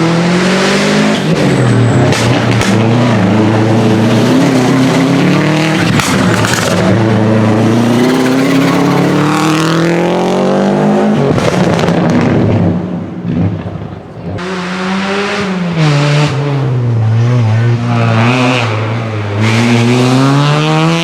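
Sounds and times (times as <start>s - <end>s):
rally car engine accelerating: 0.0s - 13.7s, 14.3s - 21.0s.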